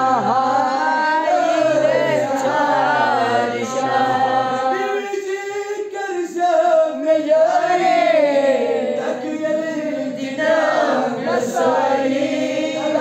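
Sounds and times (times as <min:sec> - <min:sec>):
men chanting a prayer: 0:00.0 - 0:13.0.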